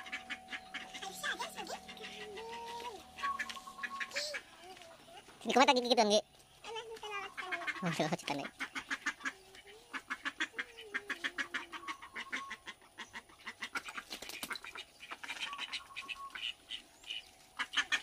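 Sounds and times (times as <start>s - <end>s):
ducks quacking: 0.0s - 6.0s, 6.7s - 18.0s.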